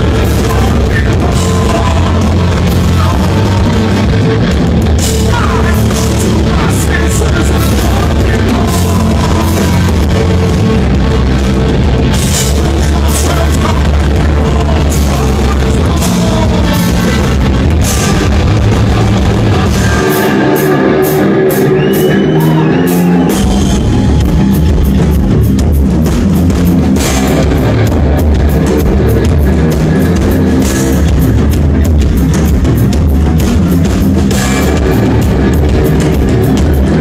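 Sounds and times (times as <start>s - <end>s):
distorted electric guitar: 0.0s - 37.0s
drum kit: 0.0s - 37.0s
live rock band playing: 0.0s - 37.0s.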